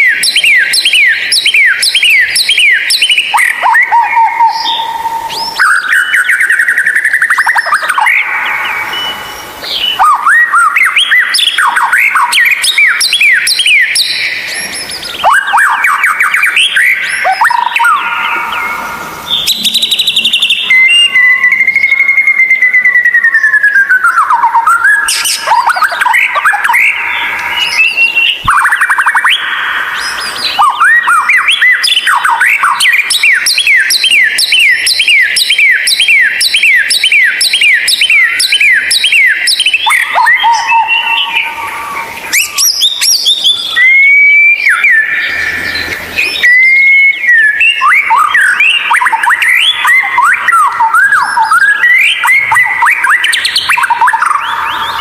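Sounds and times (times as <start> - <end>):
bird singing whistled notes: 0.0 - 55.0.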